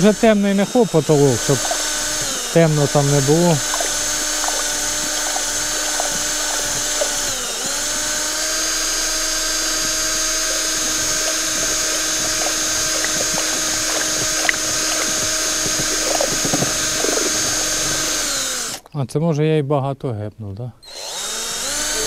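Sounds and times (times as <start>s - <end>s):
cordless drill mixing paint: 0.0s - 19.0s, 20.8s - 22.0s.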